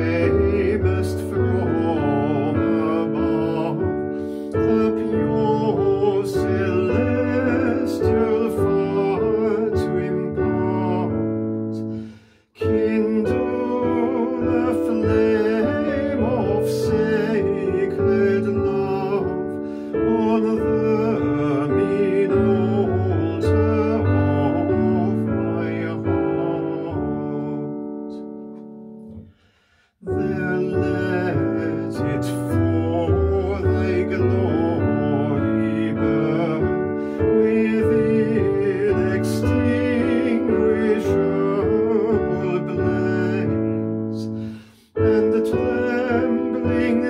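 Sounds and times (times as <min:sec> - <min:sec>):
piano playing hymn: 0:00.0 - 0:47.0.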